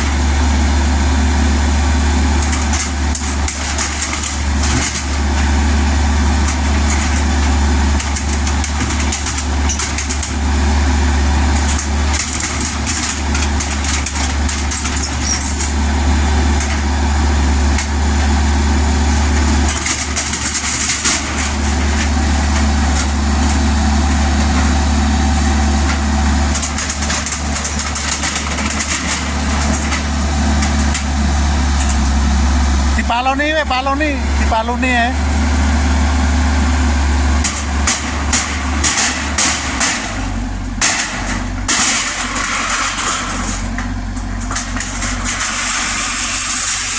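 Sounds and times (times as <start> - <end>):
excavator diesel engine humming: 0.0 - 46.9.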